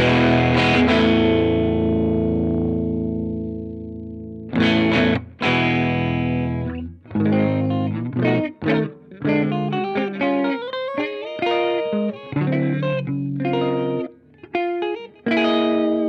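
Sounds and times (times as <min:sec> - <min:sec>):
electric guitar chords and riff: 0:00.0 - 0:16.0.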